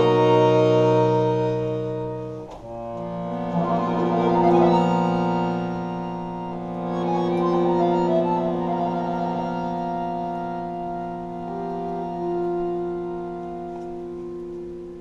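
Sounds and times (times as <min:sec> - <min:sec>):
accordion playing sustained chords: 0:00.0 - 0:15.0.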